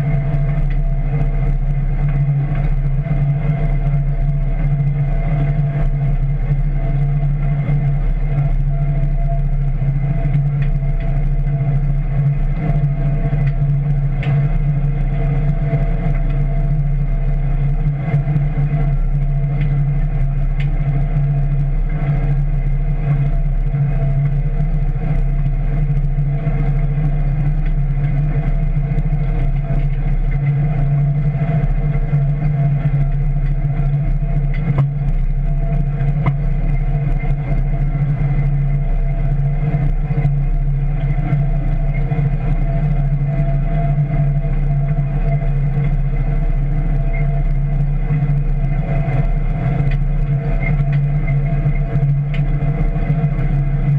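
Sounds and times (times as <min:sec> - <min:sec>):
implement rumble: 0:00.0 - 0:53.9
tractor engine drone: 0:00.0 - 0:53.9.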